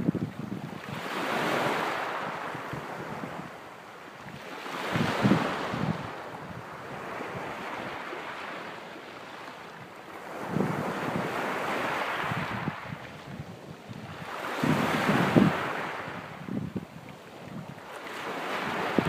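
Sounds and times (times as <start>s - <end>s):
wind buffeting microphone: 0.0s - 3.6s, 4.2s - 8.6s, 9.7s - 19.0s
small waves breaking on beach: 0.0s - 19.0s.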